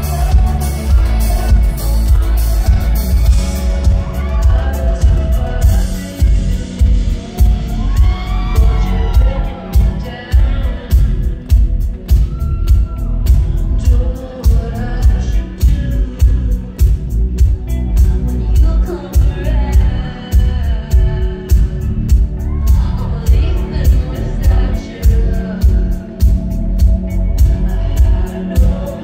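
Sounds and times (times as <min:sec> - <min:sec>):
woman singing: 0:00.0 - 0:11.6, 0:12.2 - 0:29.0
electro-pop band playing: 0:00.0 - 0:29.0
heavy bass line: 0:00.0 - 0:29.0.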